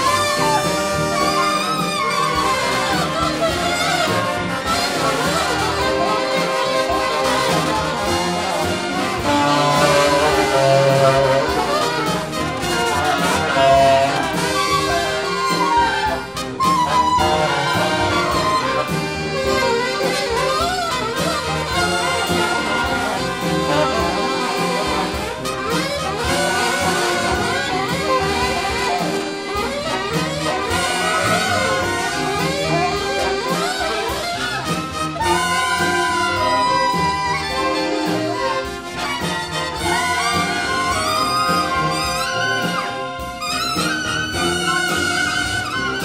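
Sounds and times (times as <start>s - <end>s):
brass instrumental music: 0.0s - 46.0s.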